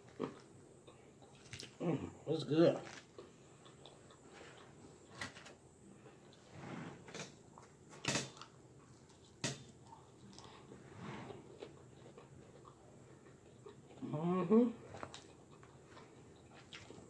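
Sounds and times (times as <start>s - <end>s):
soft chewing: 0.0s - 6.5s, 7.1s - 17.0s.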